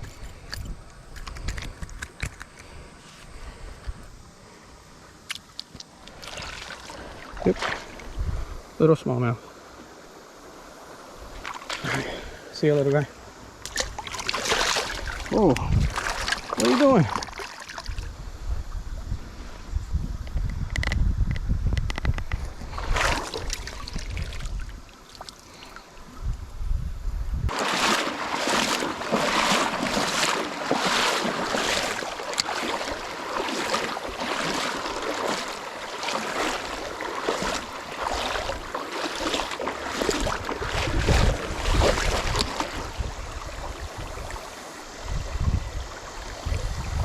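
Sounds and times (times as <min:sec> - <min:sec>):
wind on microphone: 0:00.0 - 0:04.3, 0:07.3 - 0:08.8, 0:13.8 - 0:24.9, 0:26.0 - 0:47.0
water splashing around kayak: 0:02.4 - 0:19.7, 0:22.0 - 0:26.1, 0:27.5 - 0:47.0.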